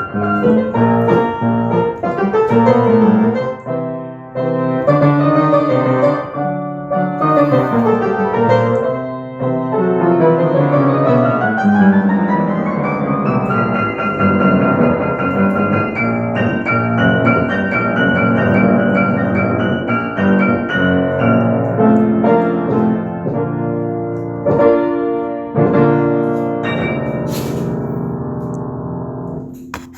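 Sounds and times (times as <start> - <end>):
piano-like keyboard music: 0.0 - 29.9.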